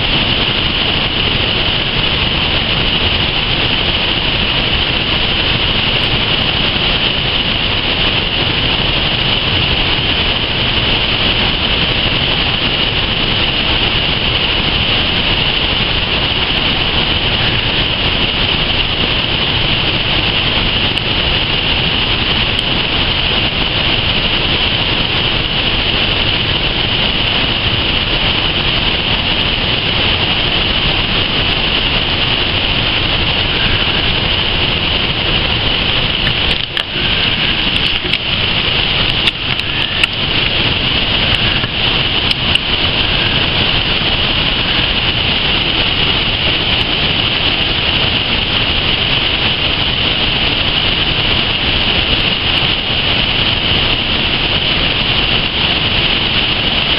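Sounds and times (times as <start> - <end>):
river water rushing over boulders: 0.0 - 56.9.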